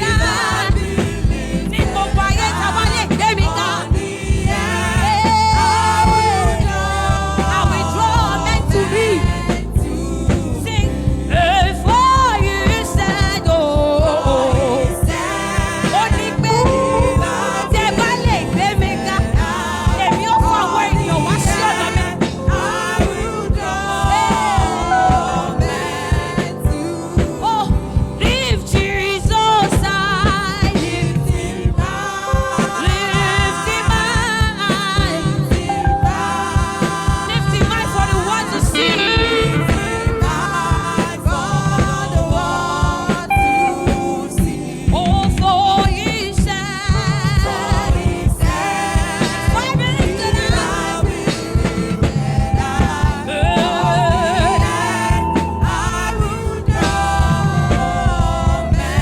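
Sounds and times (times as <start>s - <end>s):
drum beat and bass: 0.0s - 59.0s
gospel singing: 0.0s - 59.0s.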